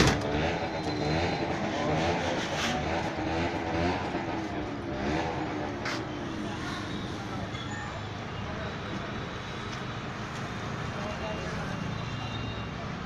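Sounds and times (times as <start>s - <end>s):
truck engines idling: 0.0s - 13.0s.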